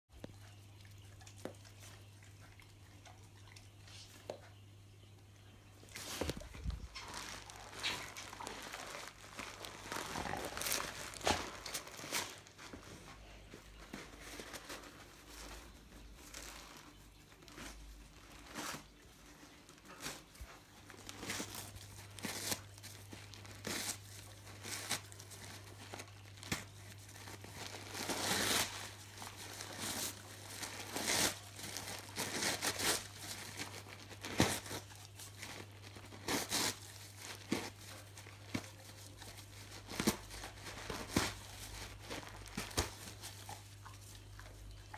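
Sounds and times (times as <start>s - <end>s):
dog tearing tissue paper: 6.0s - 44.6s.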